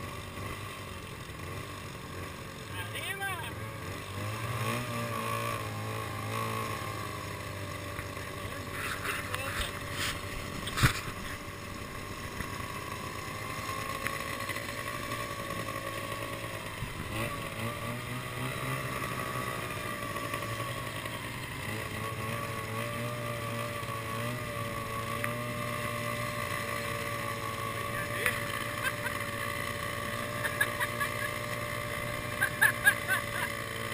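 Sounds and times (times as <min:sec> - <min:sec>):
snowmobile engine running: 0:00.0 - 0:33.9.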